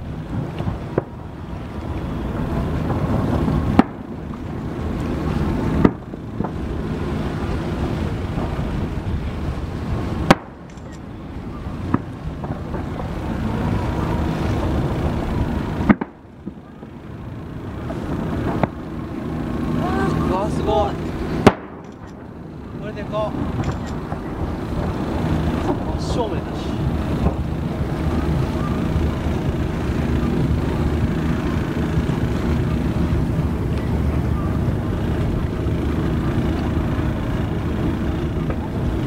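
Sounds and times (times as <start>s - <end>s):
boat noise: 0.0s - 39.0s
wind rumble: 0.0s - 39.0s
firework shells booming: 0.2s - 10.7s, 11.8s - 19.8s, 20.4s - 33.4s.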